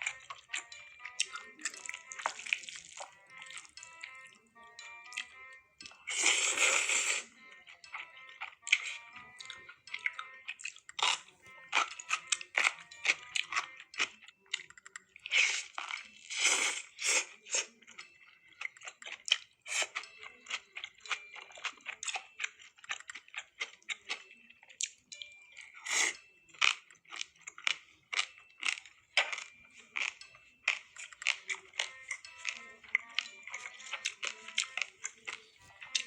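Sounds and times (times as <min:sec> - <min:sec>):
crunching and chewing crisp food: 0:00.0 - 0:36.0.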